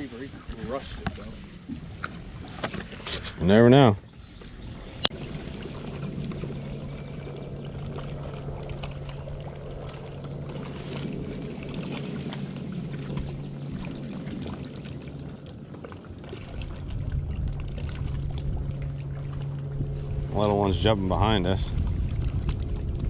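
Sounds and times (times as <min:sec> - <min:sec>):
boat motor humming: 0:00.0 - 0:23.0
water sloshing against hull: 0:00.0 - 0:23.0.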